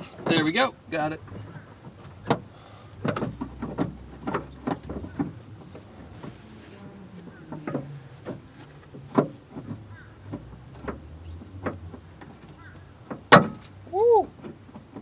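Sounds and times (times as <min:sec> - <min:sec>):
car door parts clicking and knocking: 0:00.0 - 0:06.5, 0:07.1 - 0:15.0.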